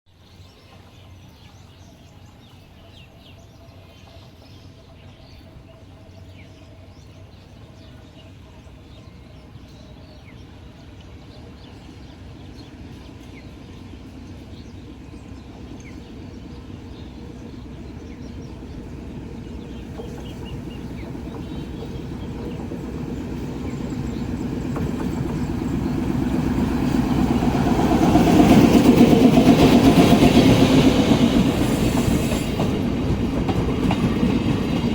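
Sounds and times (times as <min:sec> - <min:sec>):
passenger train rumble: 0:00.3 - 0:34.9.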